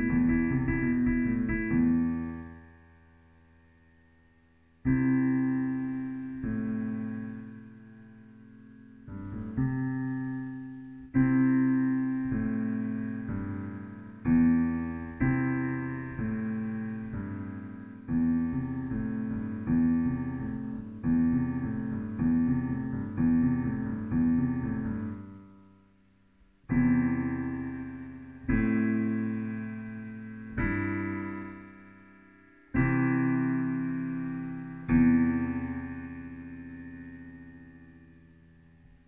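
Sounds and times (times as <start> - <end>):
digital piano low chords: 0.0 - 39.0.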